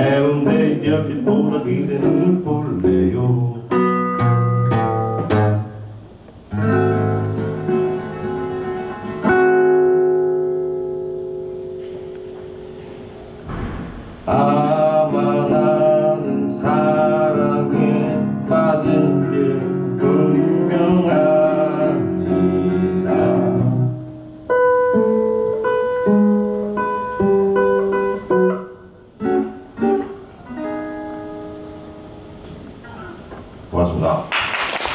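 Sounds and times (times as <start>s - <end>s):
acoustic guitar strumming: 0.0s - 33.7s.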